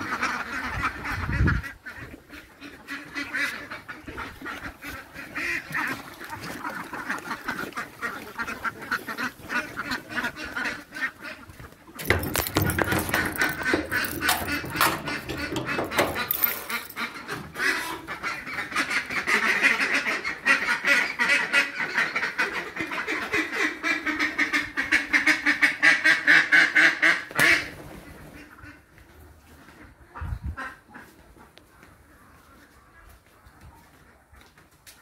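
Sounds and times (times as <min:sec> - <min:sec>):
ducks quacking: 0:00.0 - 0:33.6.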